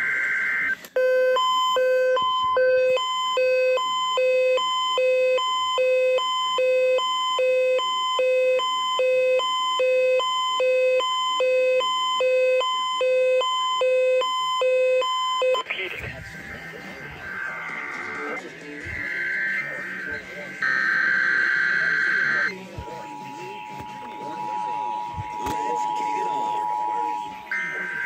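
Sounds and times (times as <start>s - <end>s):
steady alarm tone: 0.0s - 15.6s, 16.3s - 28.0s
alternating low and high alarm beeps: 0.0s - 15.7s, 16.5s - 28.0s.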